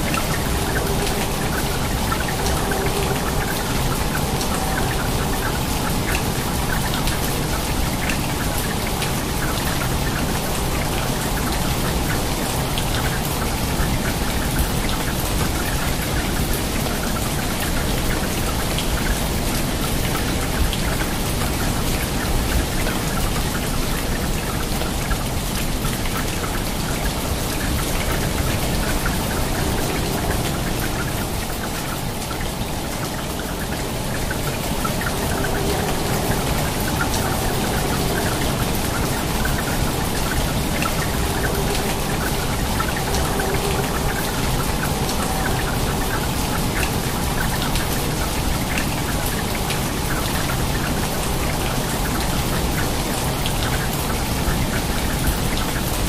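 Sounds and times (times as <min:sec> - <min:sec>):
rain falling on water: 0:00.0 - 0:56.0.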